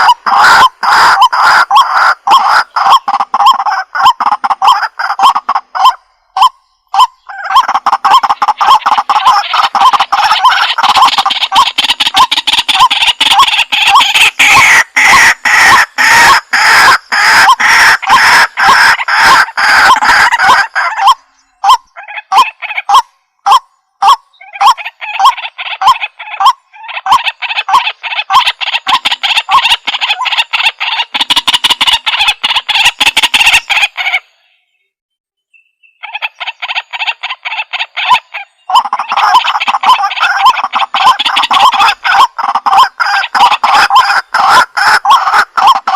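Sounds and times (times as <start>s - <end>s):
waterhen croaking calls: 0.0s - 34.6s, 35.8s - 45.9s.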